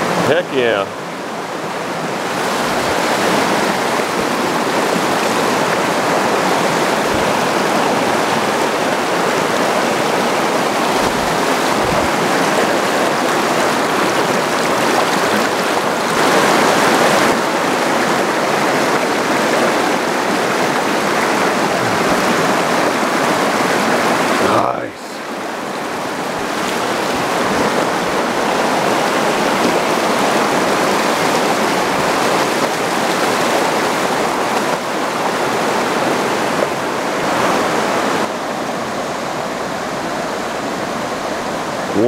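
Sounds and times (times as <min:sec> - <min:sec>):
water rushing over rocks: 0:00.0 - 0:42.0.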